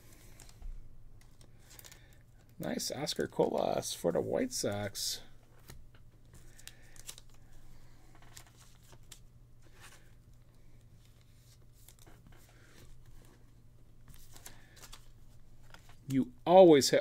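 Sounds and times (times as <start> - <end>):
cards rustling and clicking: 0.0 - 16.2.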